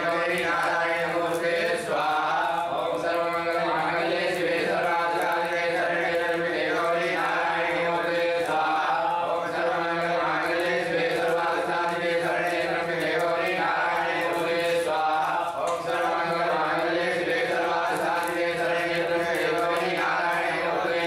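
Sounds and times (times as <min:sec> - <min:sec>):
men chanting: 0:00.0 - 0:21.0.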